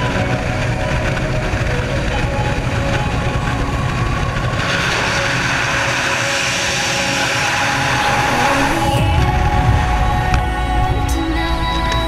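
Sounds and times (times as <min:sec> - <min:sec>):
aircraft engine running: 0:00.0 - 0:12.0
rushing hiss: 0:00.0 - 0:12.0.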